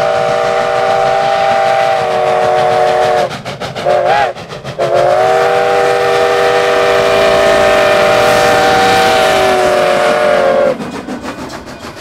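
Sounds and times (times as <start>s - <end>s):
steam locomotive whistle chord: 0.0s - 10.8s
train wheels clicking over rail joints: 0.0s - 12.0s.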